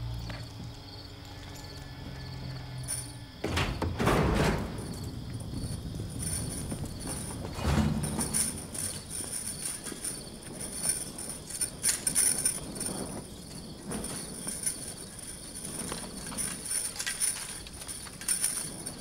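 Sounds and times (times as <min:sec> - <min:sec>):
footsteps on stone floor: 0:00.1 - 0:19.0.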